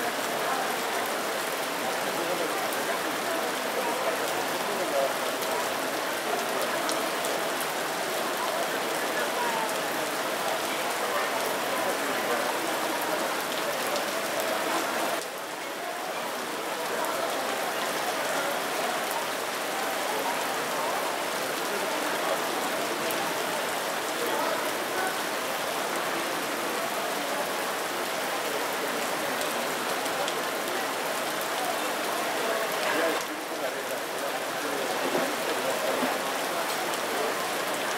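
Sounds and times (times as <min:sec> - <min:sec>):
stream babbling over rocks: 0:00.0 - 0:37.9.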